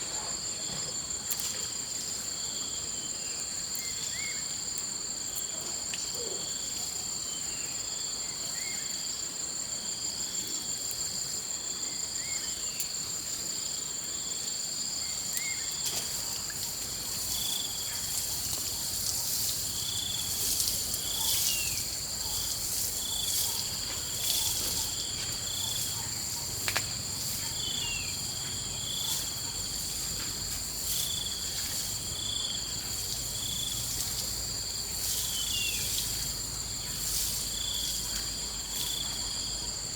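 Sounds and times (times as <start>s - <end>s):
insect chirps: 0.0s - 39.9s
insects droning: 0.0s - 39.9s.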